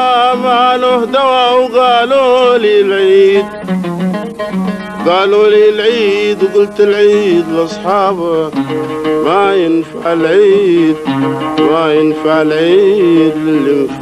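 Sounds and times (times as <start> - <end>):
man singing long wavering notes: 0.0 - 3.6, 5.0 - 8.6, 9.2 - 14.0
plucked oud: 0.0 - 14.0.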